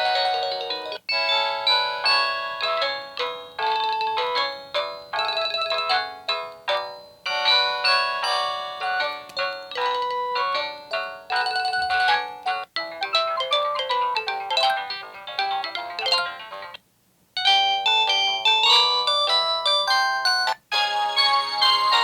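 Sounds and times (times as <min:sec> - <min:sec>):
phone ringtone melody: 0:00.0 - 0:16.8, 0:17.4 - 0:22.0.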